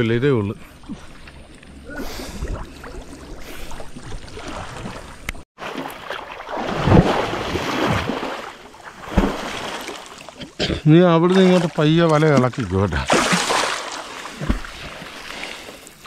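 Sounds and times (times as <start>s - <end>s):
water sloshing against boat: 0.6s - 16.0s
knocks and splashes: 2.4s - 15.7s.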